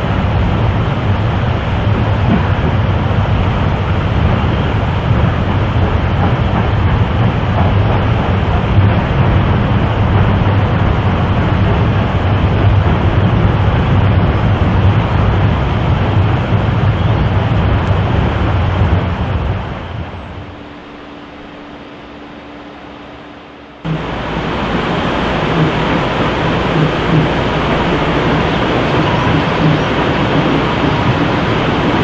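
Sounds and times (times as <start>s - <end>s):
train rumbling over a bridge: 0.0s - 32.0s.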